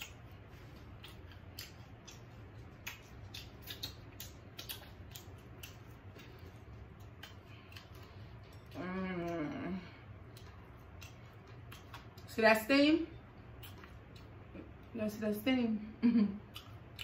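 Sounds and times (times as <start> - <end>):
wet chewing and finger-licking: 0.0 - 9.5, 10.2 - 12.3, 13.3 - 14.9, 16.4 - 17.0
faint low hum: 0.0 - 17.0.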